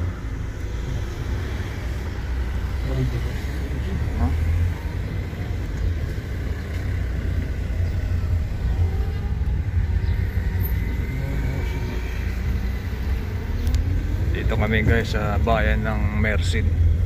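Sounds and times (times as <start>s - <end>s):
car engine and tyres rumble: 0.0s - 17.0s.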